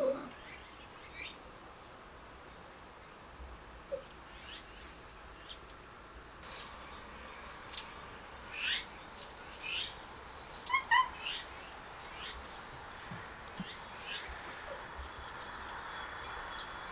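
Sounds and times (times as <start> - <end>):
birds chirping: 0.0 - 3.3, 3.9 - 16.9
steady background hum: 0.0 - 16.9.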